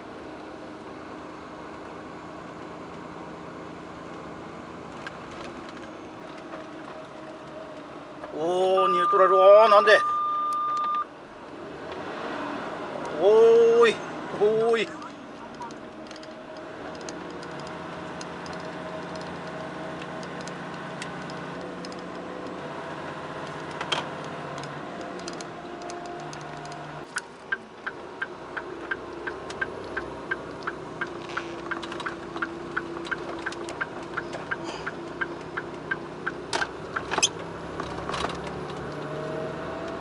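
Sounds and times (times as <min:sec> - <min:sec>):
diesel truck engine running: 0:00.0 - 0:40.0.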